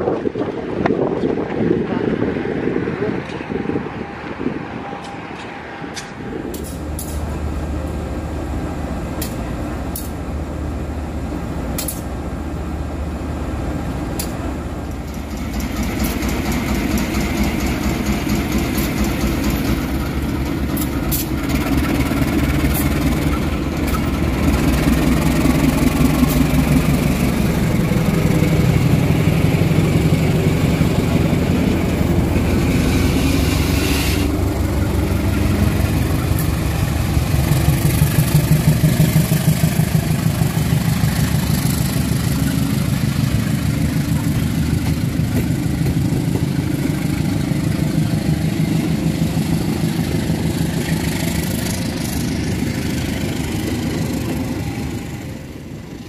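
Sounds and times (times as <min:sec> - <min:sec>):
locomotive diesel engine: 0:00.0 - 0:56.0.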